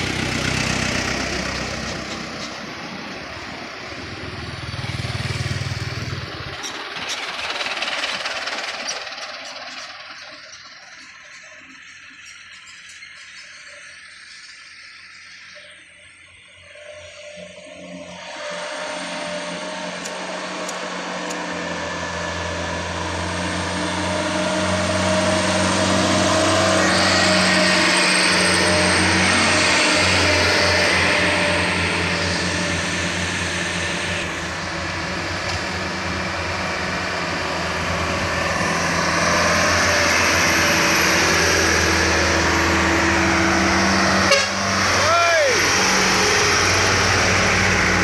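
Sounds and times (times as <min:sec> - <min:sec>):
diesel truck engines labouring: 0:00.0 - 0:48.0.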